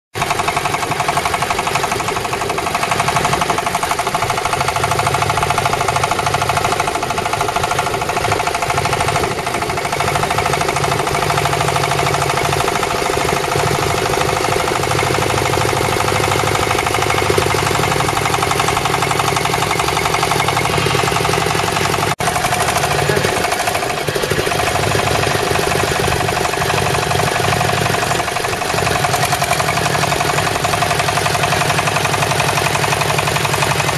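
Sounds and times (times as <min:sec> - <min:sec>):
drilling machine clatter: 0:00.2 - 0:33.9.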